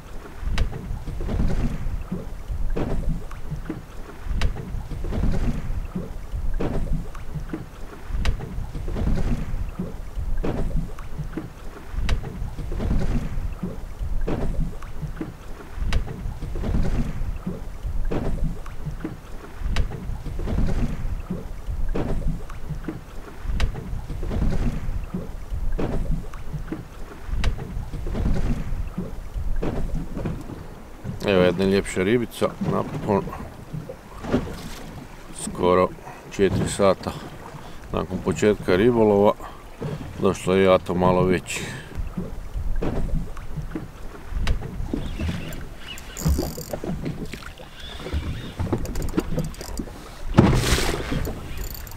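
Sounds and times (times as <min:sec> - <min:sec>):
wind rumbling on microphone: 0:00.0 - 0:19.0, 0:19.6 - 0:35.6, 0:41.9 - 0:51.9
waves slapping boat hull: 0:00.0 - 0:51.9.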